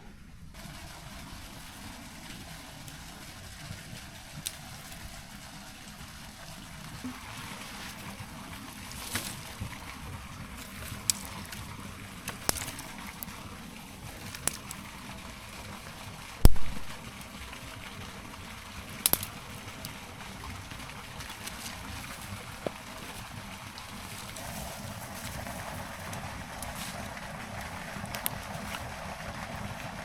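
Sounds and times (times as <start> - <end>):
low steady hiss: 0.0 - 30.0
firewood cracking and snapping: 0.9 - 29.0.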